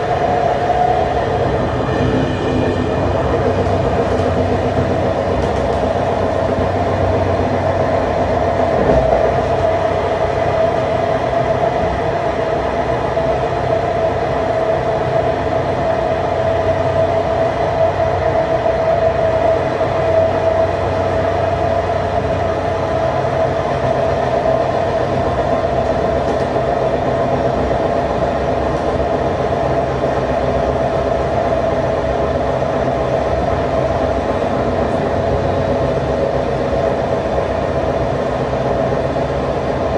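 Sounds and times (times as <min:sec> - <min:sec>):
diesel locomotive droning: 0:00.0 - 0:39.9
train running noise: 0:00.0 - 0:39.9.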